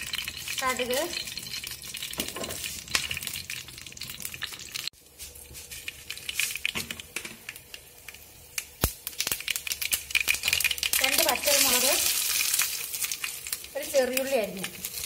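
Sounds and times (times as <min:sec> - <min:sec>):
mustard seeds popping in oil: 0:00.0 - 0:04.9, 0:05.5 - 0:15.0
faint oil sizzle: 0:00.0 - 0:15.0.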